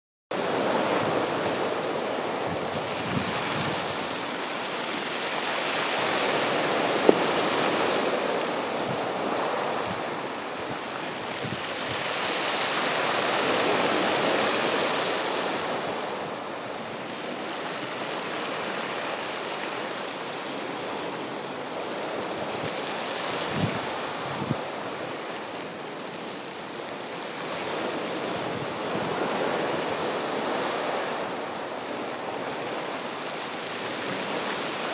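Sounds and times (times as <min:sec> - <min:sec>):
wind buffeting microphone: 0:00.4 - 0:19.1, 0:20.4 - 0:34.9
surf on pebble beach: 0:00.4 - 0:34.9.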